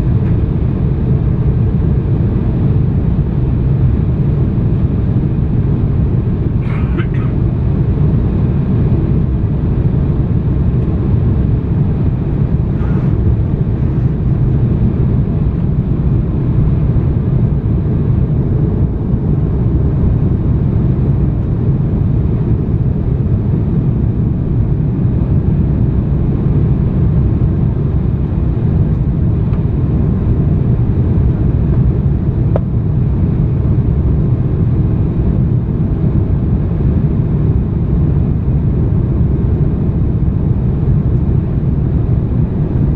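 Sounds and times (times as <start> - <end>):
airliner cabin noise: 0.0 - 42.9.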